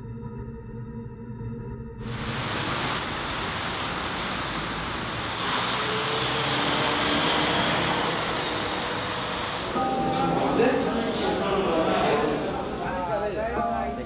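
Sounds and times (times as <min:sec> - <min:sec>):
faint high whine: 0:02.1 - 0:14.0
passing vehicles rushing: 0:02.1 - 0:14.0.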